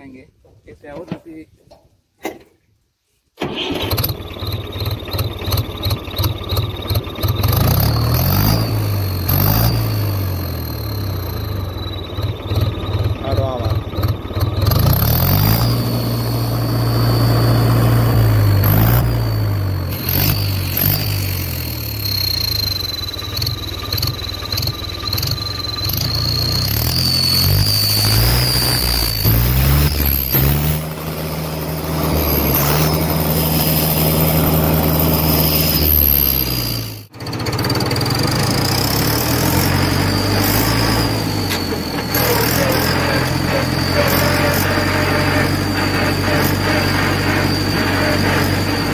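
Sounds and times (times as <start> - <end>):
tractor diesel engine revving: 3.4 - 48.9
high turbo whistle: 7.4 - 48.9.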